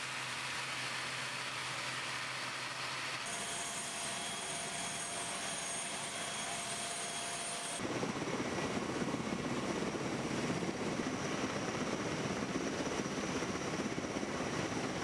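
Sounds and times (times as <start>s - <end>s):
aircraft engine whining rush: 0.0s - 15.0s
rough outdoor noise: 0.0s - 15.0s.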